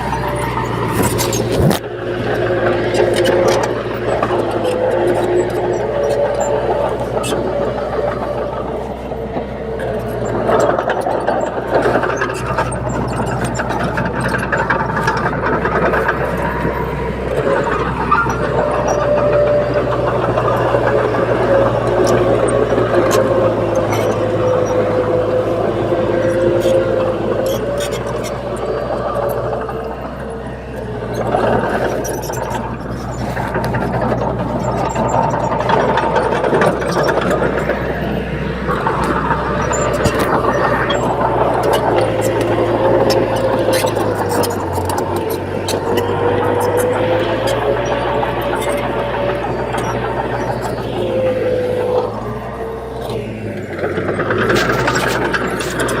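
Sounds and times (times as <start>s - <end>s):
bulldozer diesel engine running: 0.0s - 56.0s
clanks and clicks: 0.0s - 56.0s
fast metallic clatter: 0.0s - 56.0s.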